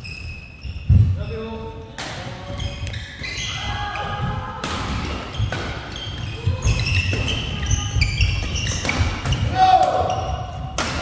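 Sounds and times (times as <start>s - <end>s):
shoes squeaking on floor: 0.0s - 10.8s.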